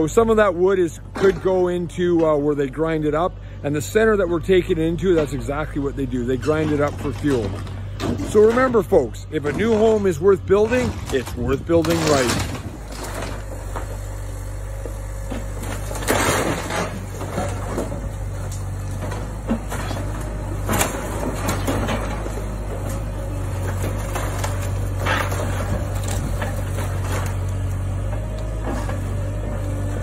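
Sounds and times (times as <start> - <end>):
excavator engine running: 0.0 - 30.0
wood crunching and splintering: 4.4 - 30.0.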